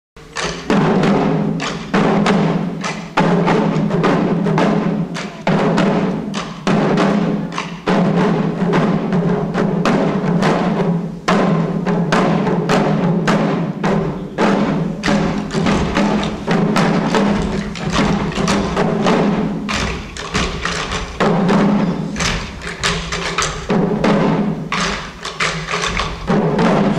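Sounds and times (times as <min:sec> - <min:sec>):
drums beaten with sticks: 0:00.2 - 0:26.9.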